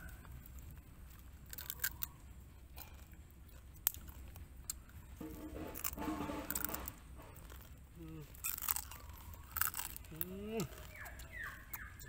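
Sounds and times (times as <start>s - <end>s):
crab shell crunching: 0.0s - 12.0s.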